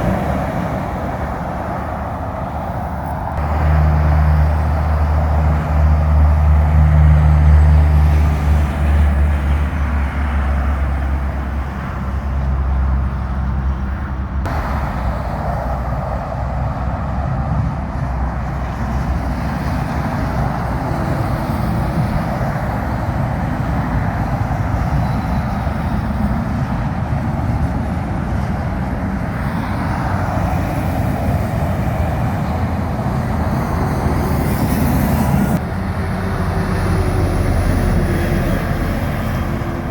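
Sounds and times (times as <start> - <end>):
truck diesel engine droning: 0.0 - 39.9
tyres on wet road: 0.0 - 39.9.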